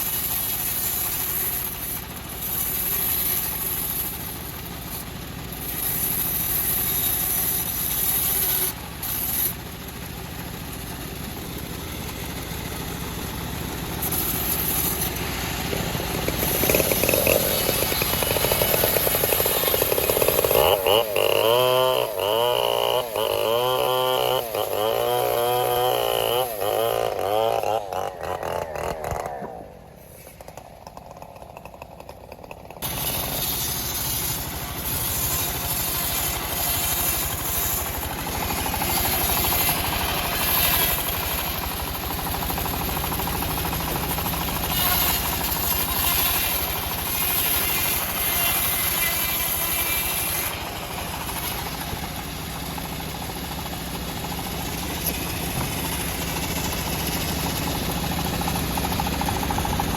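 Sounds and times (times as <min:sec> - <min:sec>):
bandsaw sawmill engine running: 0:00.0 - 0:59.9.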